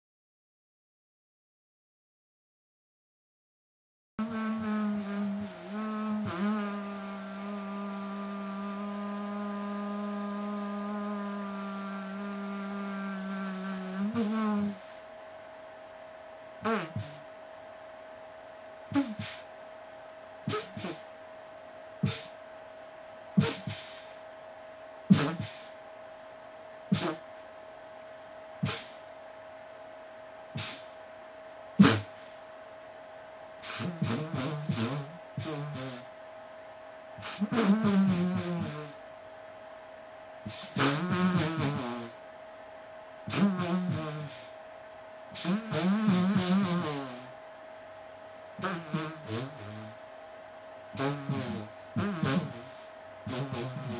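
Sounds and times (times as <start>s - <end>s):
faint electrical hum: 4.2s - 53.9s.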